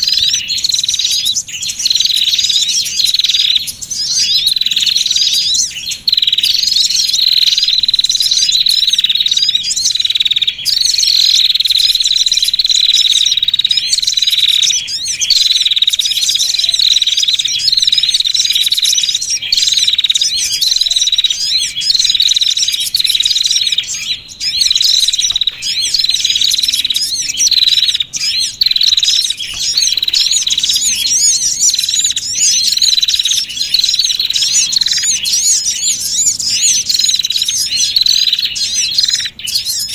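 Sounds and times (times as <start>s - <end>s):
high bird trill: 0.0s - 39.9s
small songbirds chirping and twittering: 0.0s - 39.9s.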